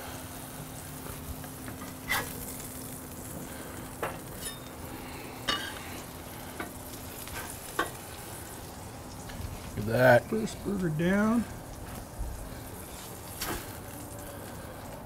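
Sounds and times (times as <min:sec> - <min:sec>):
burger patties sizzling on griddle: 0:00.0 - 0:15.0.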